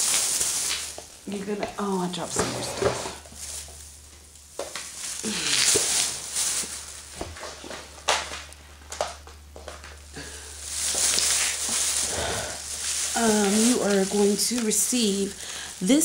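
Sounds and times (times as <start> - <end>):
plastic packaging crinkling: 0.0 - 2.4, 3.1 - 16.0
steady low hum: 0.0 - 16.0.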